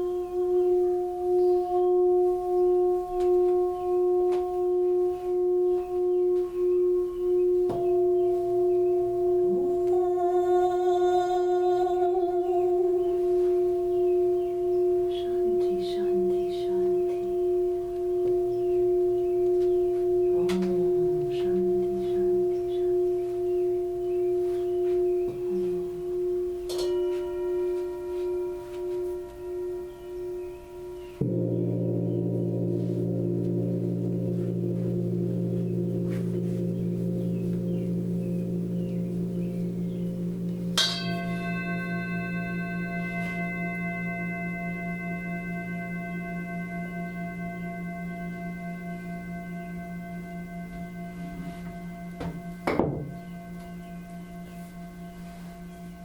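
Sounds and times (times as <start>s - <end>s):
higher ringing tones: 0.0s - 56.0s
singing bowl ringing: 0.0s - 56.0s.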